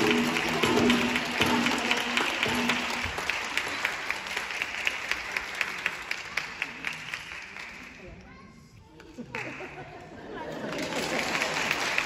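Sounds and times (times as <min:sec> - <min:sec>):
audience applauding: 0:00.0 - 0:08.0, 0:10.4 - 0:12.0.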